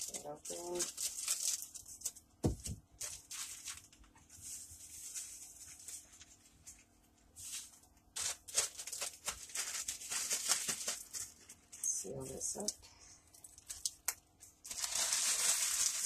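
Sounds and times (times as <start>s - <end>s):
plastic bags crinkling: 0.0s - 12.7s, 13.3s - 16.0s.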